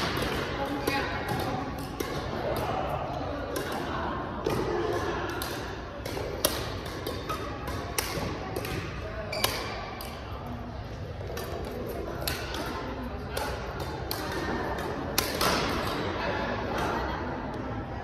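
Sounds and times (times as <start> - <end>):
racket hitting shuttlecock: 0.0 - 10.3, 11.2 - 16.1.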